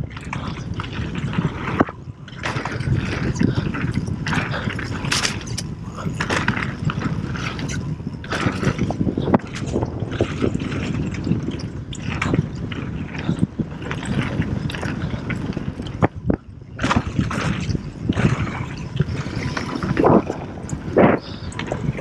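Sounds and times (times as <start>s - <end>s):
bike rattling over bumps: 0.0s - 22.0s
bike tyres rumbling on dirt: 0.0s - 22.0s.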